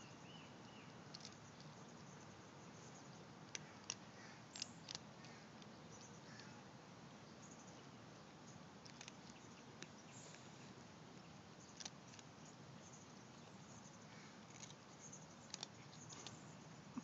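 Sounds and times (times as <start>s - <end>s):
faint steady hiss: 0.0s - 17.0s
cats crunching dry kibble: 0.2s - 6.7s, 8.2s - 17.0s.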